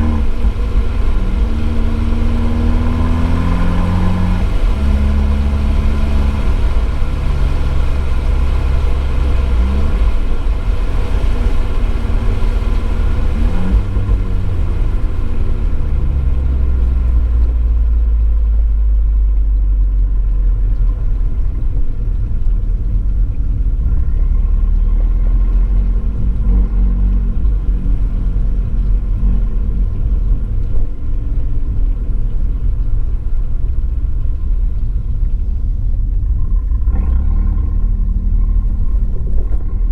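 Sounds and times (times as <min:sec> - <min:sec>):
car engine at speed: 0:00.0 - 0:39.9.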